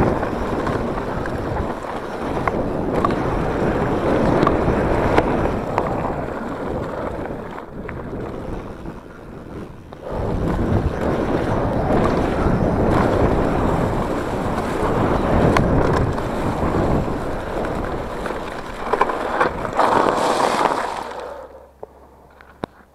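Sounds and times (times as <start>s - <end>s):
wind rushing over microphone: 0.0s - 21.7s
mountain bike tyre noise and knocks: 0.0s - 22.9s.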